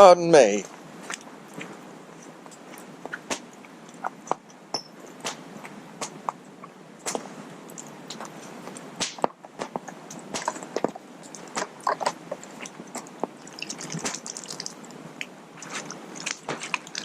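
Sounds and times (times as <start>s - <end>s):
campfire crackling: 0.6s - 17.0s.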